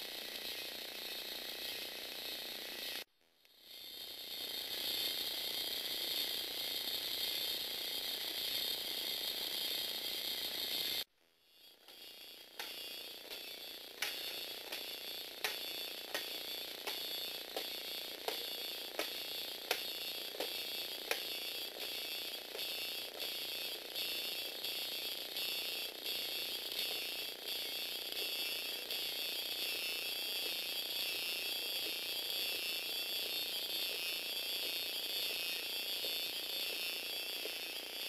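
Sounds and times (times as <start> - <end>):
electric motor whining: 0.0 - 38.0.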